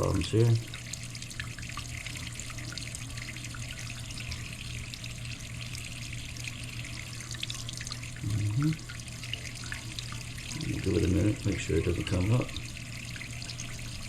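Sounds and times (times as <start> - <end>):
low steady hum: 0.0 - 14.0
water splashing down a drain: 0.0 - 14.0.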